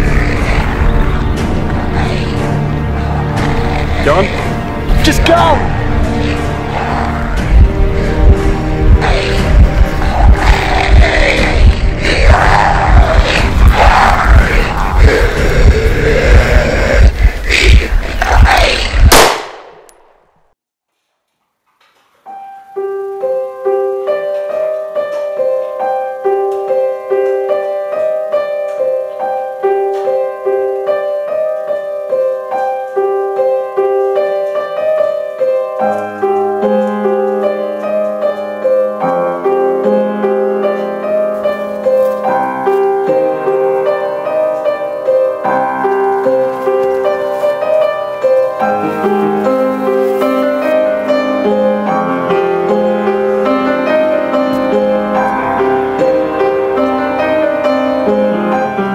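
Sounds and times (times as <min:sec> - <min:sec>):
piano music: 0:00.0 - 0:17.8, 0:22.2 - 0:58.9.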